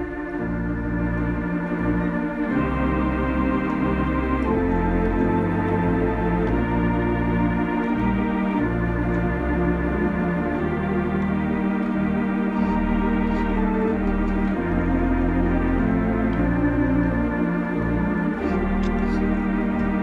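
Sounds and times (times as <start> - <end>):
cinema organ playing chords: 0.0 - 20.0.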